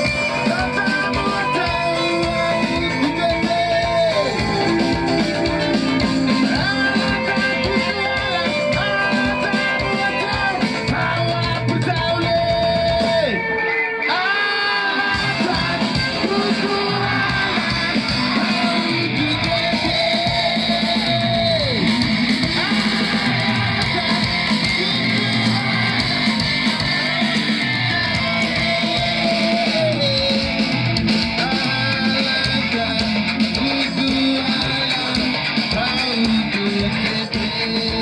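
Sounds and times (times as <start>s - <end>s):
electric guitar sustained notes: 0.0s - 38.0s
live rock band playing: 0.0s - 38.0s.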